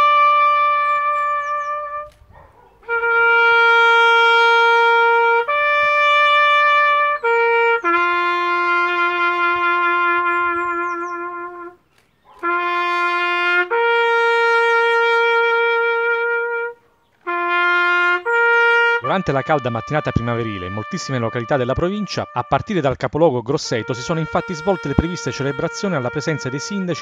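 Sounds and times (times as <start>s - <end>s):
trumpet playing bugle-style call: 0.0s - 27.0s.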